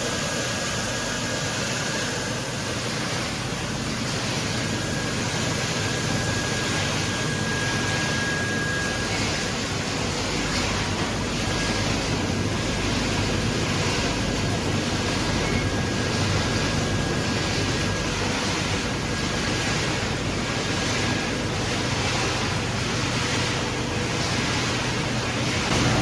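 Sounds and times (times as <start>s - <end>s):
steady machine noise: 0.0s - 26.0s.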